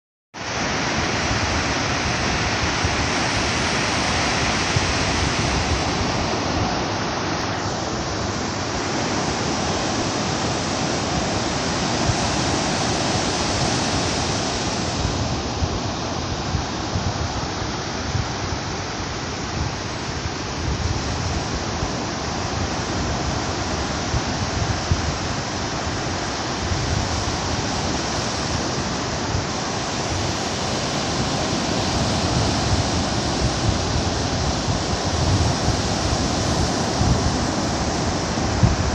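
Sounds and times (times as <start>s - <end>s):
ocean waves breaking on beach: 0.4s - 38.9s.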